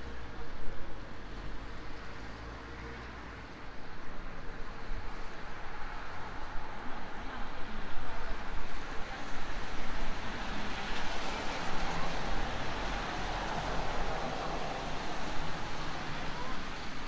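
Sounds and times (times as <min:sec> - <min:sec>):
city background noise: 0:00.0 - 0:17.0.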